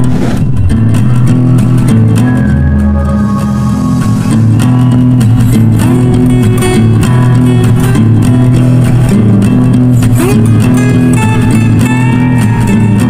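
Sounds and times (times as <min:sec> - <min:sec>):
guitar and bass music: 0:00.0 - 0:13.0.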